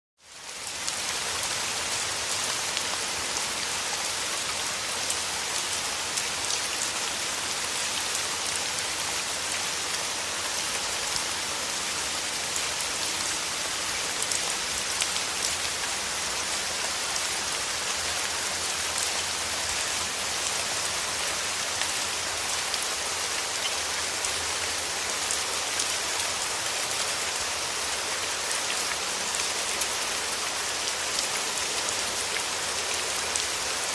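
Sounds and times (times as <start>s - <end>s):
steady rain pattering: 0.2s - 33.9s.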